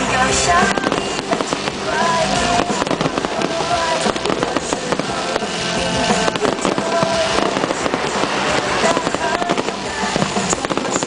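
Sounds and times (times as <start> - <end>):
firecrackers cracking and popping: 0.0 - 11.0
music playing: 0.0 - 11.0.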